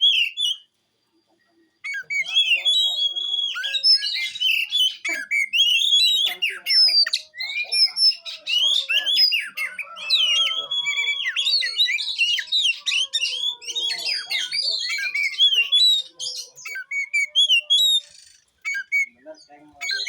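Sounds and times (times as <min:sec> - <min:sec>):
bird singing whistled notes: 0:00.0 - 0:00.7, 0:01.8 - 0:20.0.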